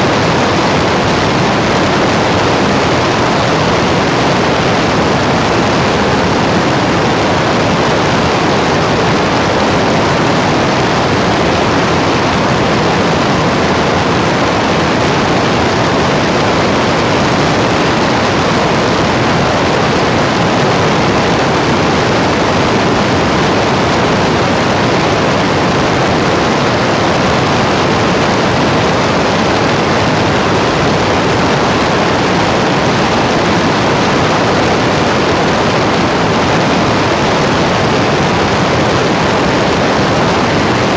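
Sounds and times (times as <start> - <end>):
loud rushing static hiss: 0.0 - 40.9.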